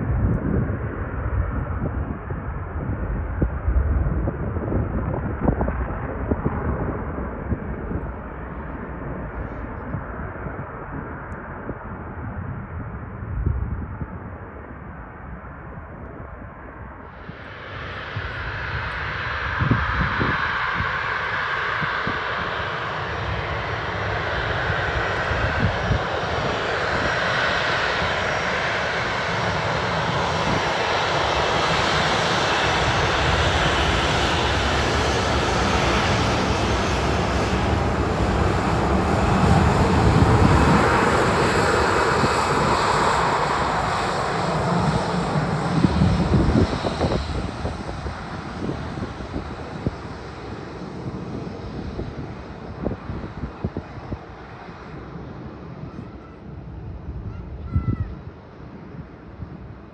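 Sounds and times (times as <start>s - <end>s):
jet aircraft passing: 0.0s - 59.6s.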